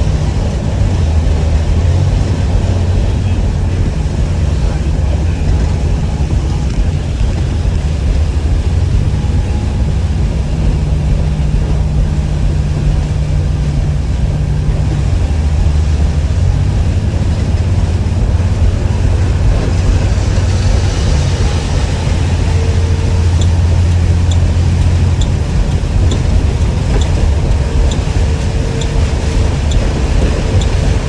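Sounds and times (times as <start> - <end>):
bus engine drone: 0.0 - 31.0
road noise: 0.0 - 31.0.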